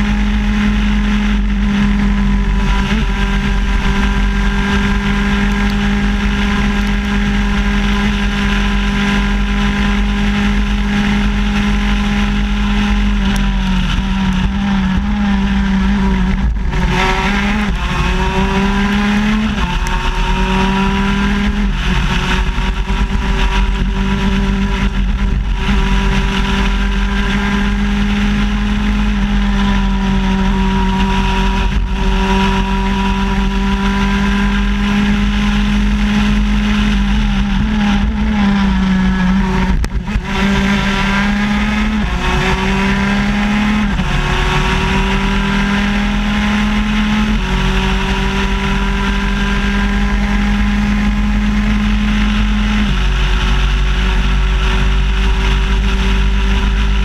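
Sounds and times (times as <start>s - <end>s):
two-stroke kart engine revving: 0.0s - 57.0s.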